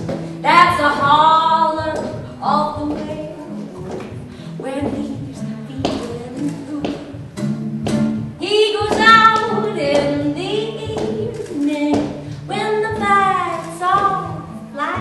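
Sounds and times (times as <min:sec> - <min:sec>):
low musical accompaniment: 0:00.0 - 0:15.0.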